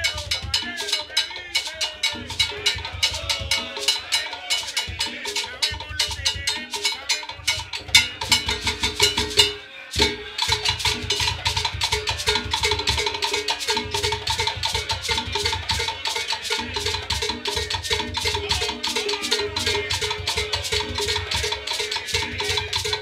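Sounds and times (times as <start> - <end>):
conga drums playing: 0.0 - 23.0.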